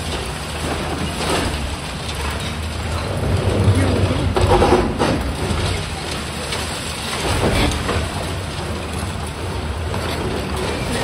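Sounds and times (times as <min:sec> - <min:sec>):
excavator diesel engine running: 0:00.0 - 0:11.0
rubble falling: 0:00.0 - 0:11.0
concrete breaking up: 0:01.0 - 0:11.0.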